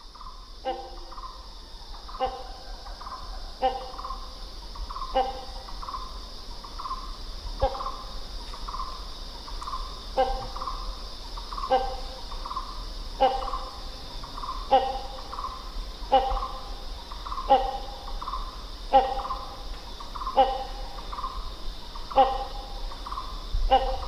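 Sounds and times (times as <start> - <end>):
insects droning: 0.0 - 24.0
hornbill harsh calls: 0.2 - 6.2, 9.6 - 24.0.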